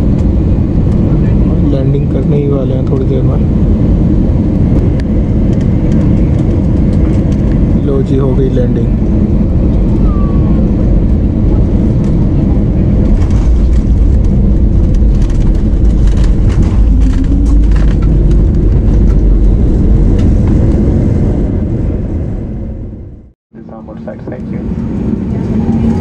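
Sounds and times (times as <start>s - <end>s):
jet engine rumble in cabin: 0.0s - 26.0s.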